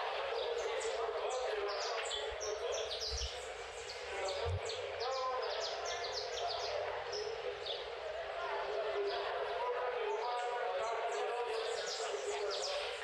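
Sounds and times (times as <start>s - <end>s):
small birds chirping: 0.3s - 8.0s, 10.3s - 13.0s.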